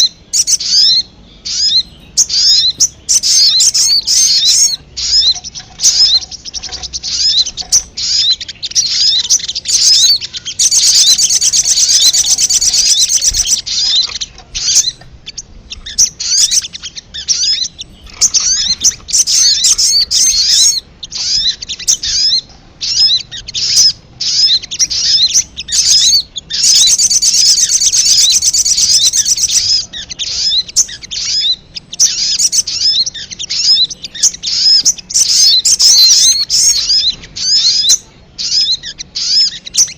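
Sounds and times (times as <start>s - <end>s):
bird chirping: 0.0s - 39.9s
bird trill: 0.0s - 39.9s.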